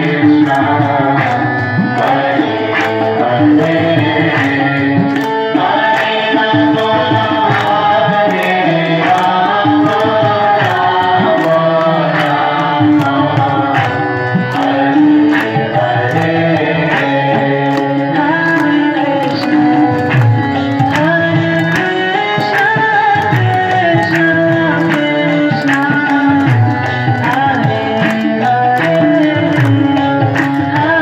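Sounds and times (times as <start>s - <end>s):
crowd clapping along: 0.0s - 31.0s
devotional song: 0.0s - 31.0s
tabla drumming: 0.0s - 31.0s.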